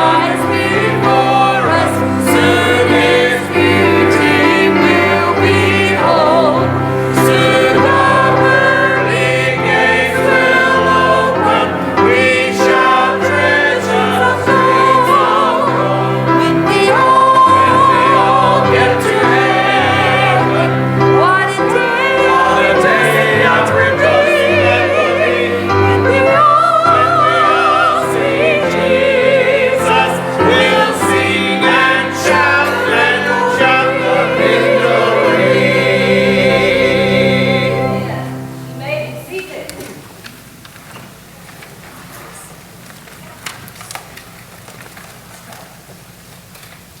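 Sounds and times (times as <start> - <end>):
gospel singing: 0.0 - 40.7.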